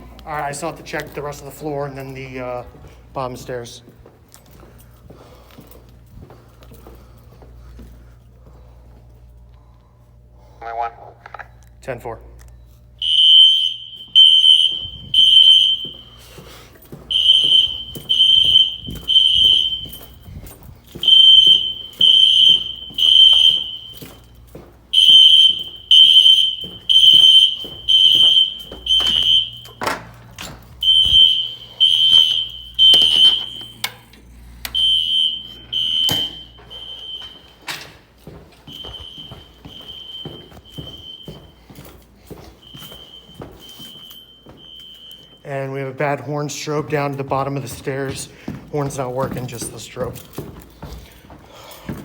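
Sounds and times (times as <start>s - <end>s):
fire alarm beeps: 0.1s - 9.8s, 12.4s - 52.0s.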